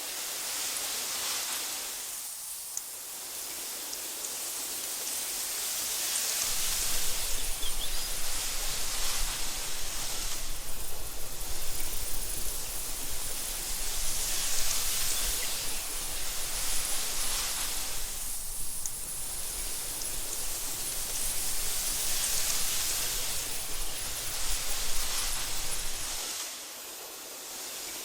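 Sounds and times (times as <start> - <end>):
wind rustling through grass: 0.0 - 28.0.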